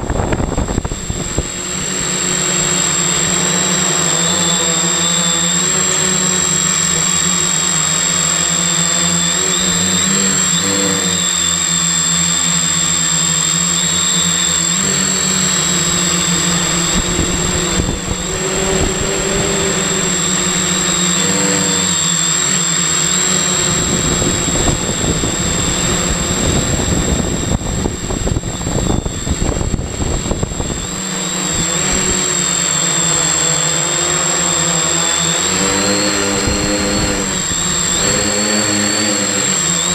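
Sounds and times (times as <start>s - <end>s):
drone propellers whirring: 0.0s - 39.9s
high whine: 0.0s - 39.9s.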